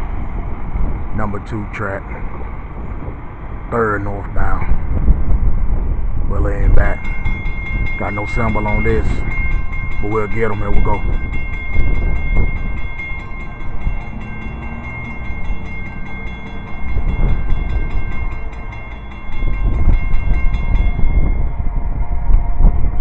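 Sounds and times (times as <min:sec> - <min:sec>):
diesel locomotive rumble: 0:00.0 - 0:23.0
high whine: 0:00.0 - 0:23.0.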